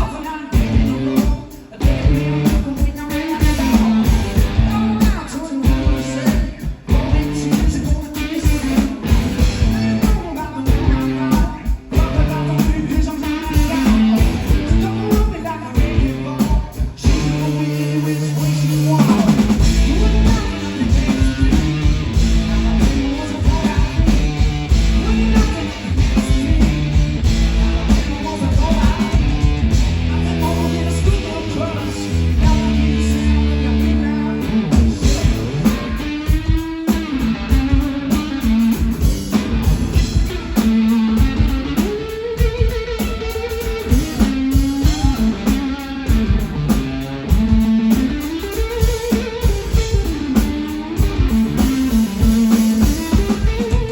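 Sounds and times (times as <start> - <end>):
drum kit: 0.0 - 53.9
electric guitar riffs: 0.0 - 53.9.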